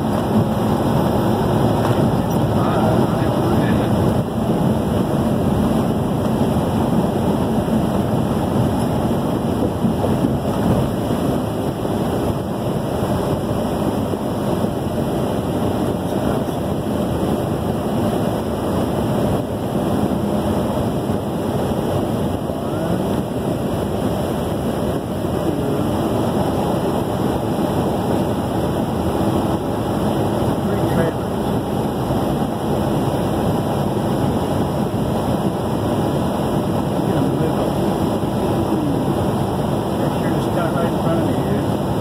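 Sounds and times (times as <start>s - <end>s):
truck road and engine drone: 0.0s - 42.0s.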